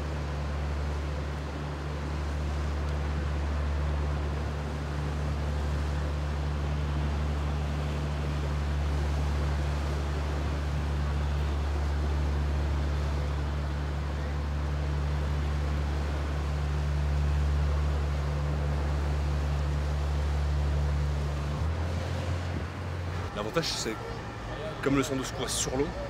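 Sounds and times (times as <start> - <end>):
motorboat engine droning: 0.0 - 26.0
water wash: 0.0 - 26.0.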